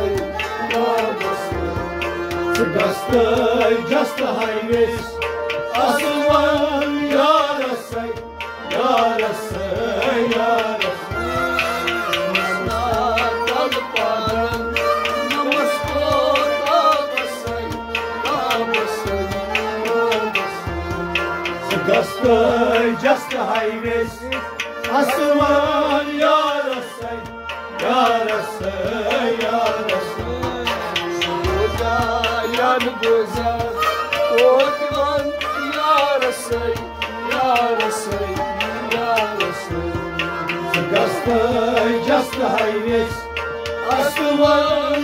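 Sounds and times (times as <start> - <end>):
hand drum beat: 0.0 - 45.0
harmonium melody: 0.0 - 45.0.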